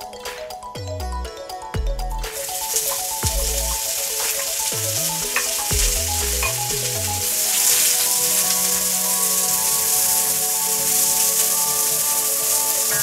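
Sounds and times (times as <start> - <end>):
vegetables sizzling in a wok: 2.4 - 13.0
wooden spoon stirring: 2.4 - 13.0.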